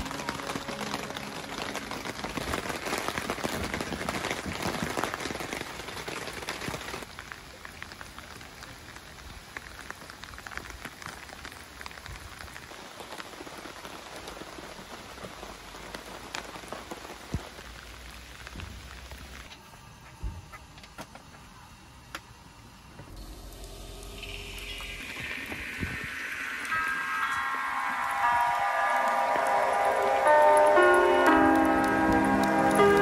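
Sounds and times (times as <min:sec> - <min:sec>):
rain on tent fabric: 0:00.0 - 0:19.6, 0:23.2 - 0:33.0.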